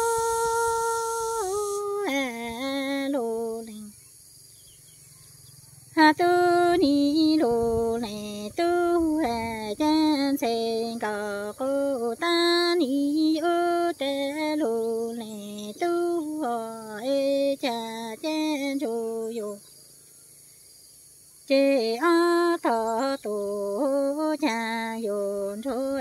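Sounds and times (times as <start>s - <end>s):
woman singing unaccompanied: 0.0s - 4.0s, 5.9s - 19.7s, 21.5s - 26.0s.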